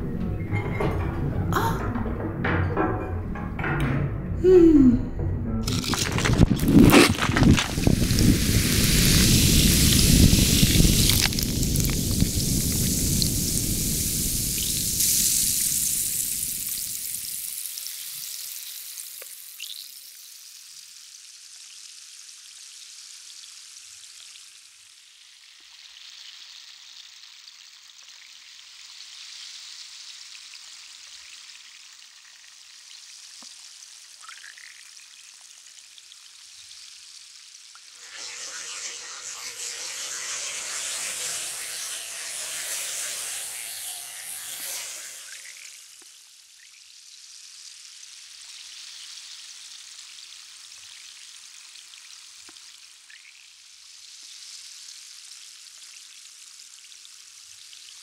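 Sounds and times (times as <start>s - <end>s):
fat sizzling in a pan: 6.8s - 58.0s.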